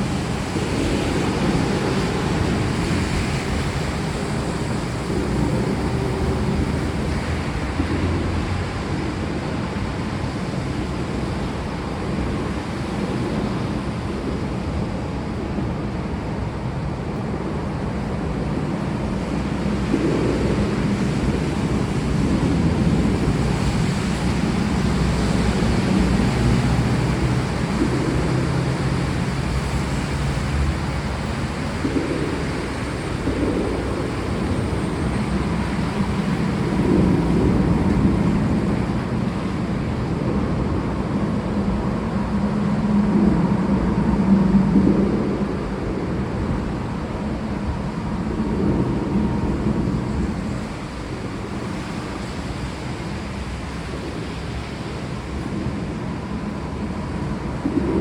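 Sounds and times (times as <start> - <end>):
steady rain falling: 0.0 - 14.3, 14.9 - 58.0
distant thunder rumbling: 0.0 - 14.4, 17.7 - 58.0.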